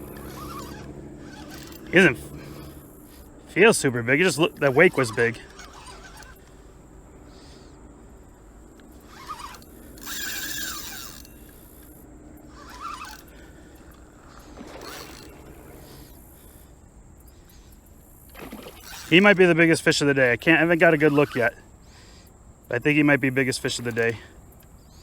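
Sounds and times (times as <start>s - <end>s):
fishing reel cranking and clicking: 0.0s - 6.7s, 8.7s - 20.0s, 20.7s - 21.6s, 23.3s - 24.8s.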